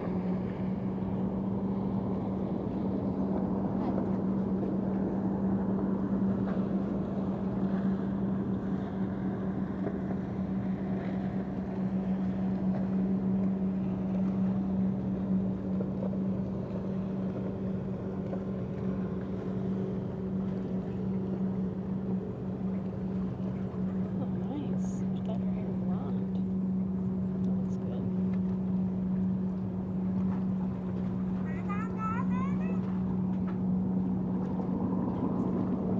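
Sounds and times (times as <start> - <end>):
engine drone: 0.0 - 35.9.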